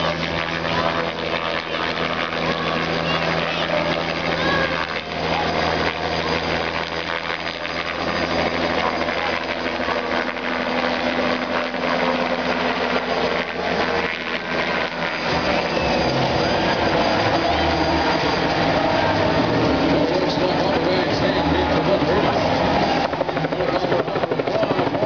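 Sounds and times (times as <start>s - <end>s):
helicopter rotor beating: 0.0s - 25.0s
helicopter turbine whine: 0.0s - 25.0s.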